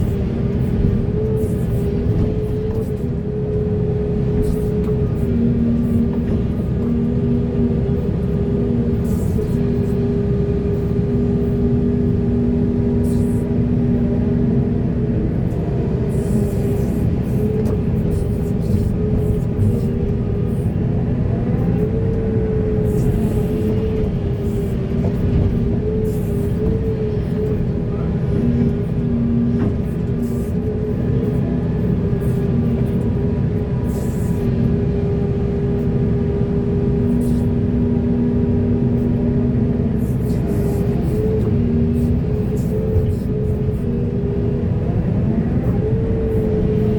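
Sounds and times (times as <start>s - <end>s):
diesel engine running under load: 0.0s - 46.9s
steady mechanical whine: 0.0s - 46.9s.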